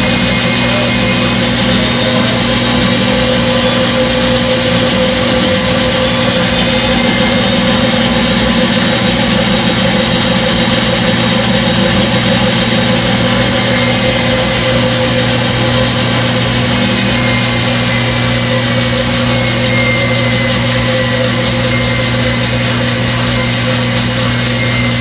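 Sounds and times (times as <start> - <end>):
washing machine drum spinning: 0.0 - 25.0.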